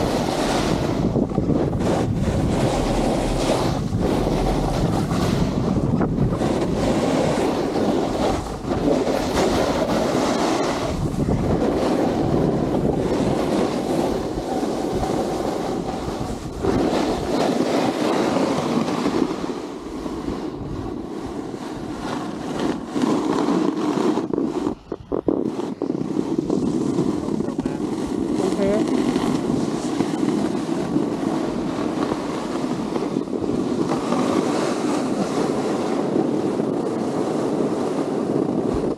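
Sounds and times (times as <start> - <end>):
skis scraping on snow: 0.0 - 38.9
wind buffeting microphone: 0.0 - 38.9.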